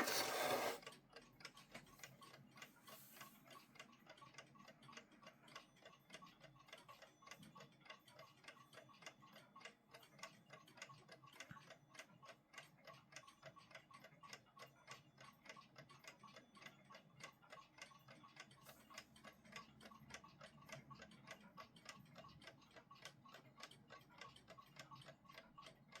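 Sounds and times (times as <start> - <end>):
mechanical alarm clock ticking: 0.0 - 26.0.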